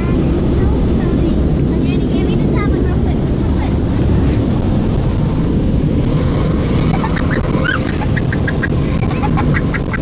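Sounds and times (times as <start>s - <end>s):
car wash low rumble: 0.0s - 10.0s.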